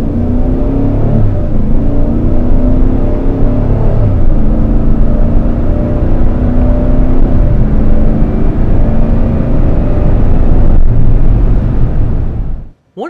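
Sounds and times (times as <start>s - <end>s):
car engine hum: 0.0s - 12.8s
road rumble: 0.0s - 12.8s.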